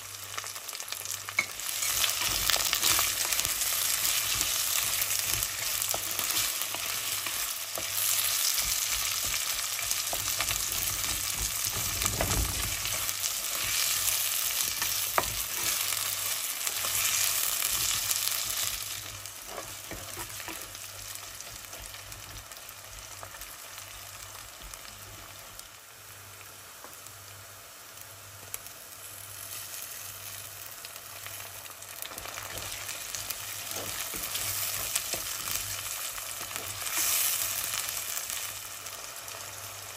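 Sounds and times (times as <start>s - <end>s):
onions sizzling in oil: 0.0s - 39.9s.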